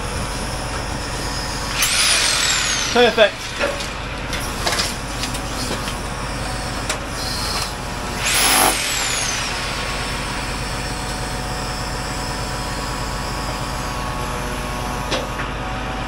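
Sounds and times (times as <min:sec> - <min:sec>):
hydraulic crane working: 0:00.0 - 0:16.0
truck engine running: 0:00.0 - 0:16.0.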